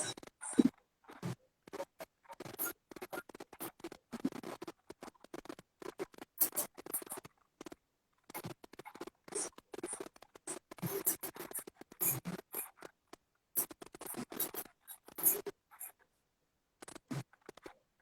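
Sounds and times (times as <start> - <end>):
scratching and rustling: 0.0 - 13.0, 13.6 - 16.1.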